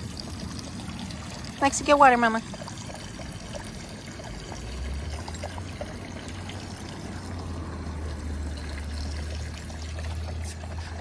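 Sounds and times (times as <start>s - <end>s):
water running and trickling: 0.0s - 11.0s.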